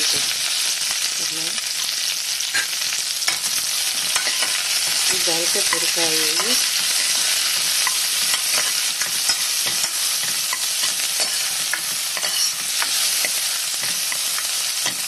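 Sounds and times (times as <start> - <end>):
onions sizzling in hot oil: 0.0 - 15.0
metal spoon scraping a pan: 1.8 - 15.0.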